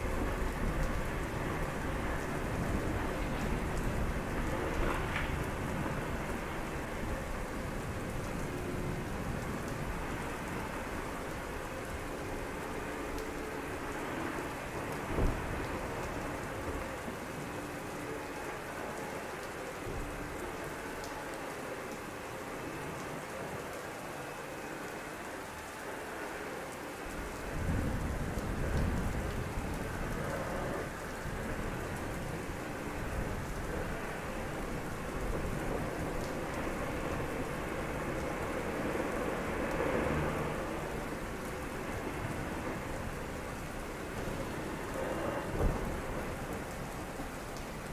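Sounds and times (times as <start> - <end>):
thunder rumble: 0.0 - 18.6, 27.1 - 47.9
heavy rain falling: 0.0 - 47.9.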